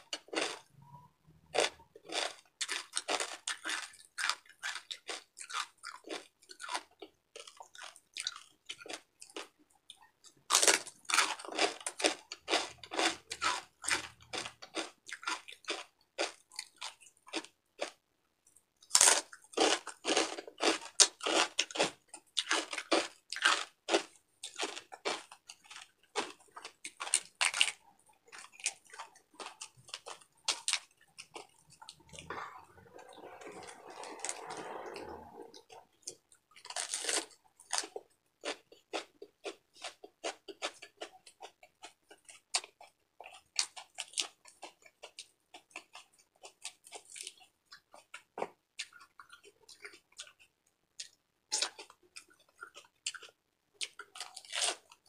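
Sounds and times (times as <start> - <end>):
crunchy pork being chewed: 0.0 - 55.0.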